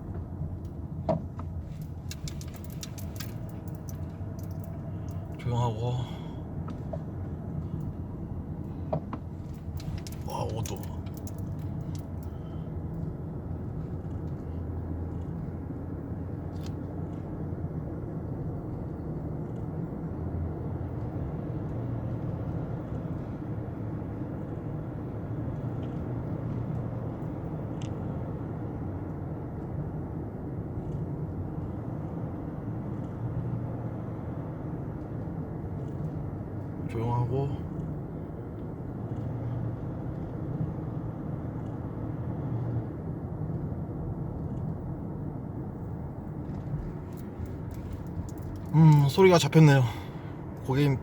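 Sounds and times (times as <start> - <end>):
road and tyre rumble: 0.0 - 51.0.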